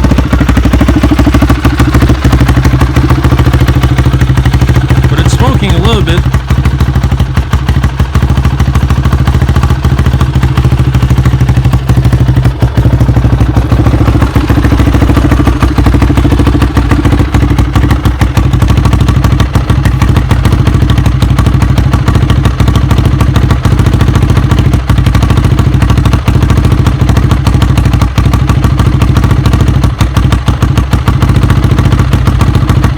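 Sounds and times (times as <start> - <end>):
motorcycle engine idling: 0.0 - 32.9.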